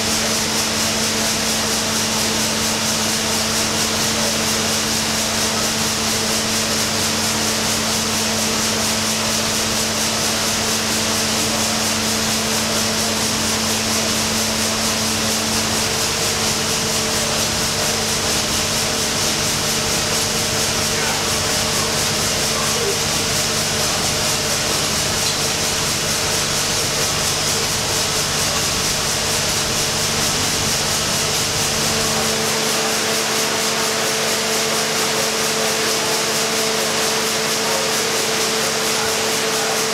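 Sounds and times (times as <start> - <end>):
steam engine running: 0.0 - 39.9.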